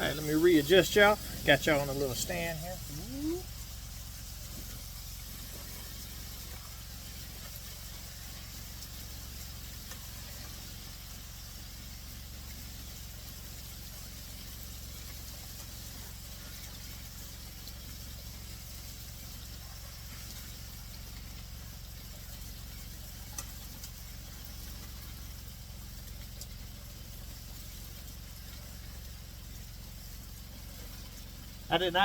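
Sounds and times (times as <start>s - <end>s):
low motor hum: 0.0s - 32.0s
steady hiss: 0.0s - 32.0s.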